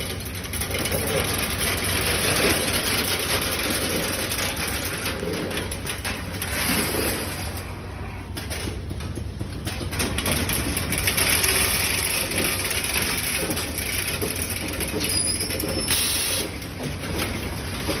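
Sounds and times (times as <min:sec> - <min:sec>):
packing machine running: 0:00.0 - 0:18.0.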